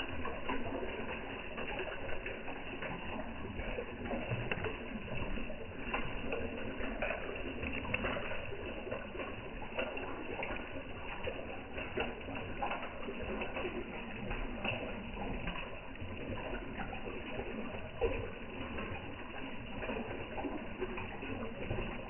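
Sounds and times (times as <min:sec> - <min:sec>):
fish slurping and splashing: 0:00.0 - 0:22.0.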